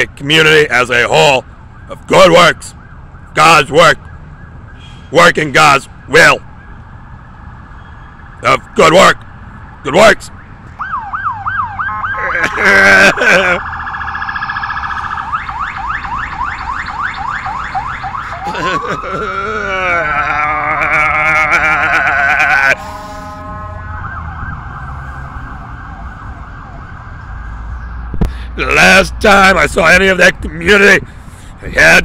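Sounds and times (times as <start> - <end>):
emergency vehicle siren: 0.3 - 31.2.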